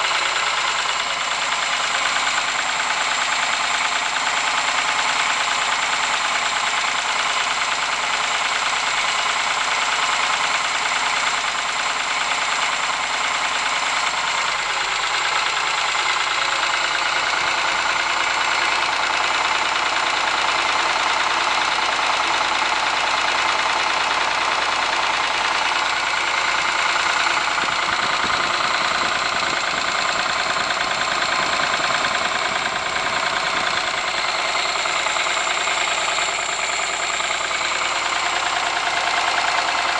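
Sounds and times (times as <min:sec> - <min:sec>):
car engine running: 0:00.0 - 0:39.9
engine knocking: 0:00.0 - 0:39.9.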